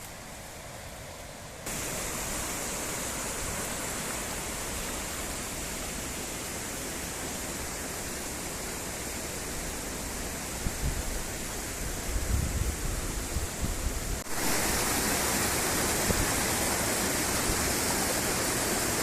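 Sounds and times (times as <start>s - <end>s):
waterfall roaring: 1.6s - 19.0s.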